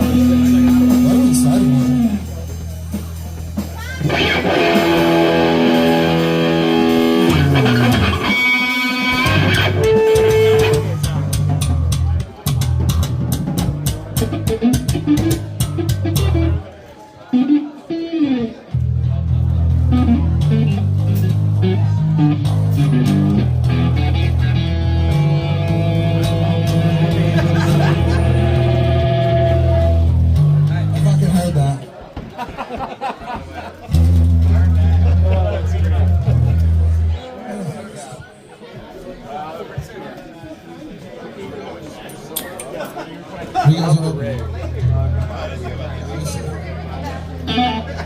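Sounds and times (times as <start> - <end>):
electric guitar through amp: 0.0 - 31.3, 33.9 - 38.0, 44.4 - 48.0.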